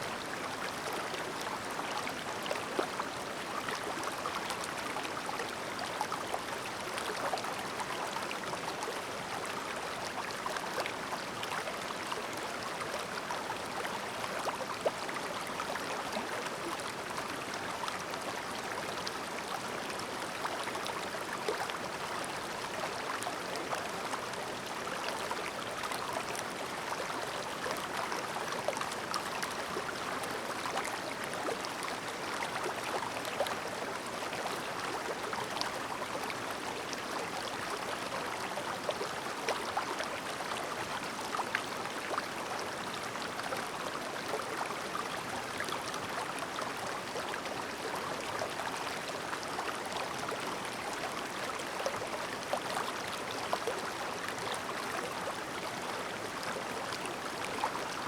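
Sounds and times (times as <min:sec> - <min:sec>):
stream babbling: 0:00.1 - 0:58.0.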